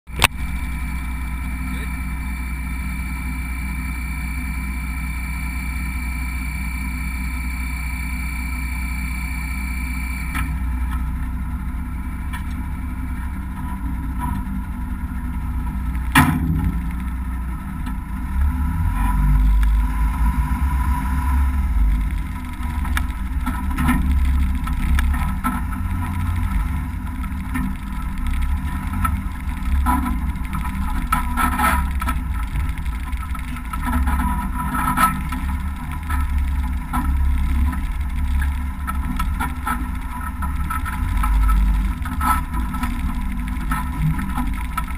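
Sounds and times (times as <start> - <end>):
diesel truck engine running: 0.1 - 44.9.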